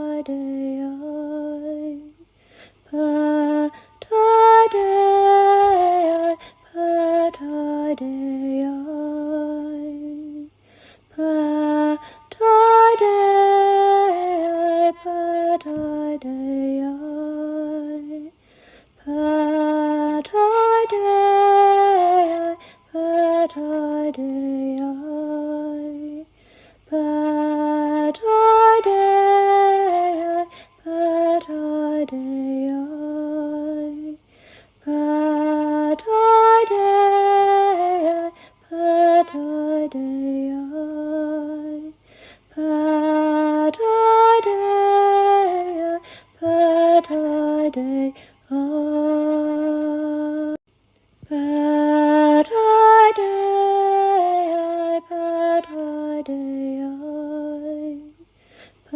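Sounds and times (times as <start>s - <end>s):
woman singing a lullaby chant: 0.0s - 58.9s.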